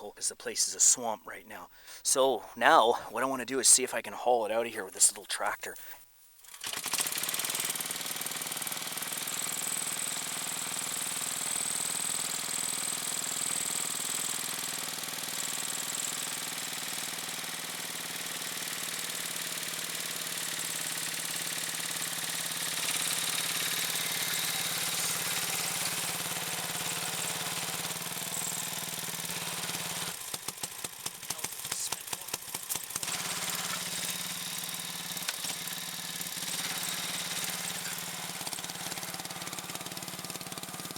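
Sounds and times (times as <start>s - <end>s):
lawn tractor engine running: 6.4s - 40.9s.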